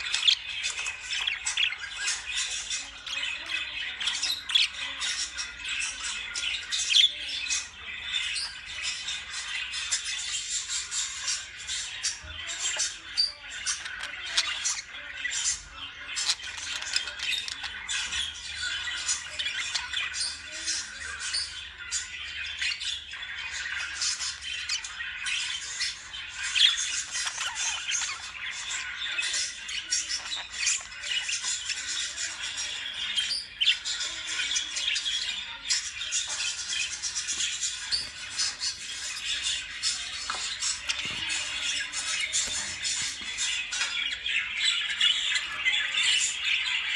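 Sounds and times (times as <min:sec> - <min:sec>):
lovebirds chattering and squawking: 0:00.0 - 0:46.9.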